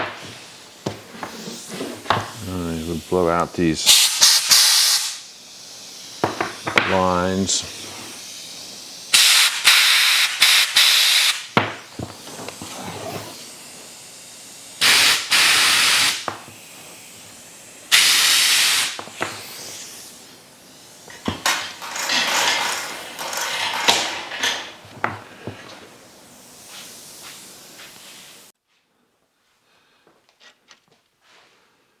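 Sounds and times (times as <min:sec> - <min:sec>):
compressed air blow gun hissing: 0:00.0 - 0:28.5.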